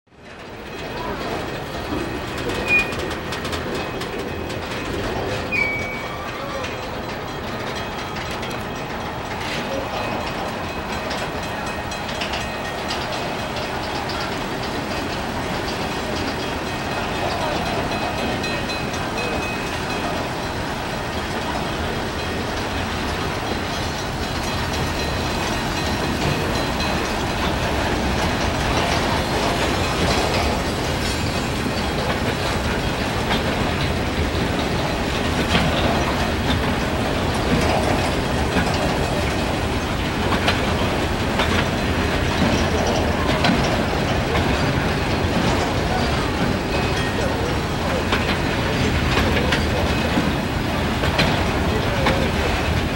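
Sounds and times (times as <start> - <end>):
train wheels clacking over rail joints: 0.1 - 52.9.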